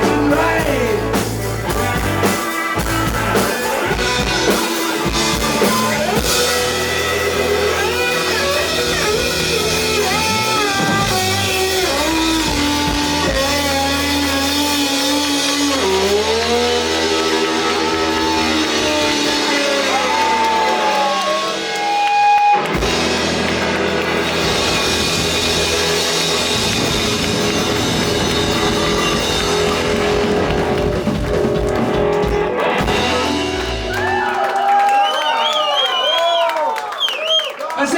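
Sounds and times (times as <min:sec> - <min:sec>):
electric guitar lead notes: 0:00.0 - 0:34.6
bass guitar: 0:00.0 - 0:34.8
drum kit: 0:00.0 - 0:35.0.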